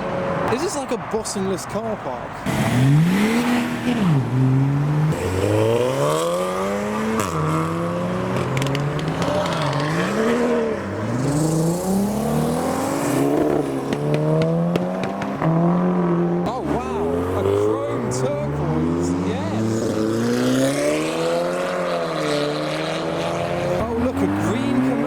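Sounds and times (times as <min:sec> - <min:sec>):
car engines revving and accelerating: 0:00.0 - 0:25.0.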